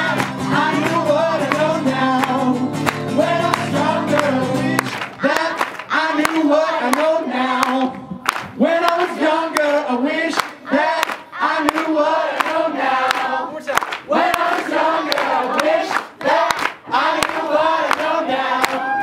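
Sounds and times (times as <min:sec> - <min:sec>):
hand claps: 0:00.0 - 0:09.7, 0:10.3 - 0:18.9
group singing a chorus: 0:00.0 - 0:19.0.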